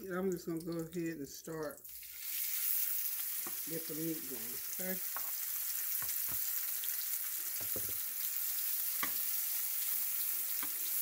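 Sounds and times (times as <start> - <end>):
meat sizzling in a frying pan: 1.8 - 11.0.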